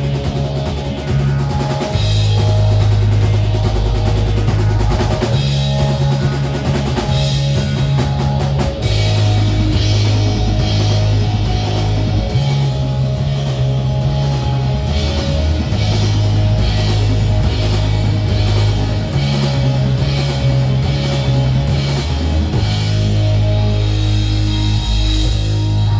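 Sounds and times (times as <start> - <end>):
live rock band instrumental: 0.0 - 25.9.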